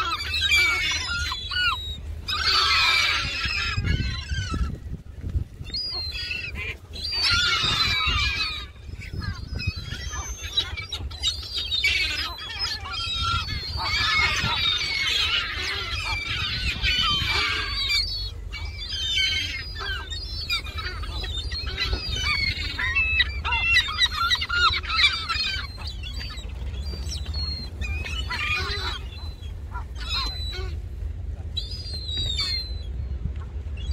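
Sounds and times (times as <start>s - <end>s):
wind rumbling on microphone: 0.0s - 11.3s, 12.2s - 33.9s
gulls calling: 0.0s - 33.9s.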